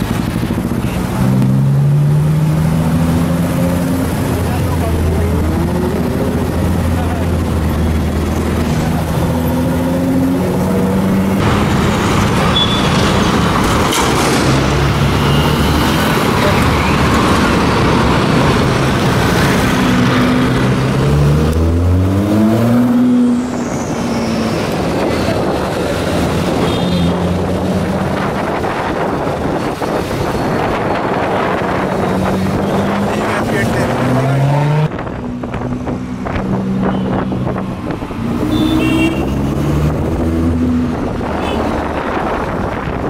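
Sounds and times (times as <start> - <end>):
car engine revving loud: 0.1 - 12.4, 14.4 - 43.0.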